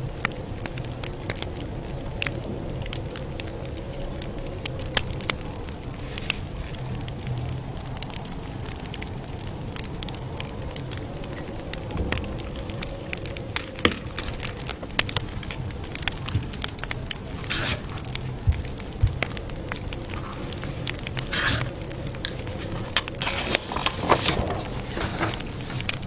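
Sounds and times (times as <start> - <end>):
campfire crackling: 3.8 - 26.0.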